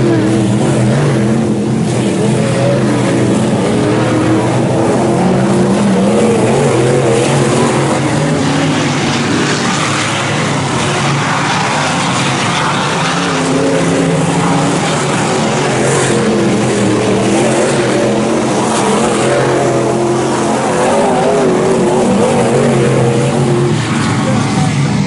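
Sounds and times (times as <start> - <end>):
race car engines: 0.0 - 25.0.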